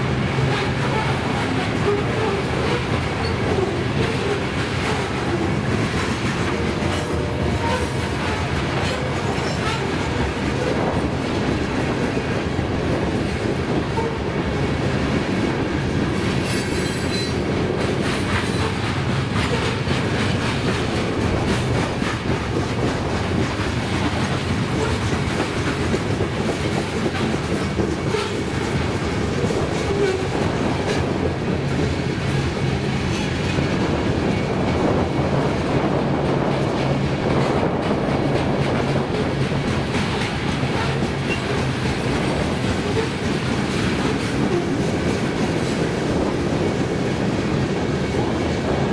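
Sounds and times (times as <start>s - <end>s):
clickety-clack of wheels: 0.0s - 48.9s
freight train wheels rumbling: 0.0s - 48.9s.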